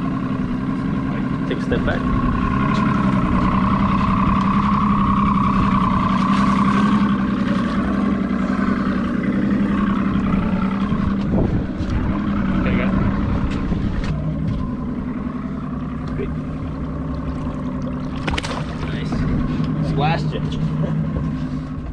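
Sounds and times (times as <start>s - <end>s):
outboard motor running: 0.0s - 21.9s.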